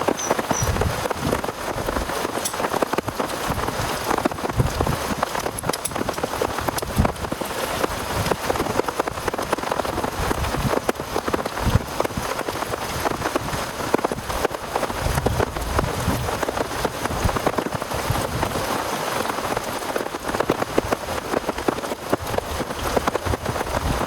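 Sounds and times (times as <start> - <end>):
heavy rain patter: 0.0 - 24.0.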